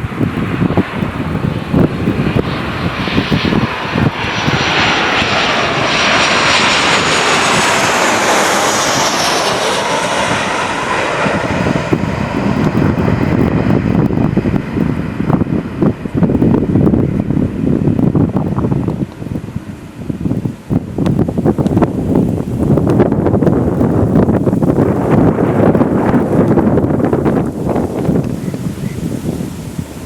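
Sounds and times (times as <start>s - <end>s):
jet airliner passing: 0.0s - 30.0s
wind buffeting microphone: 0.0s - 30.0s.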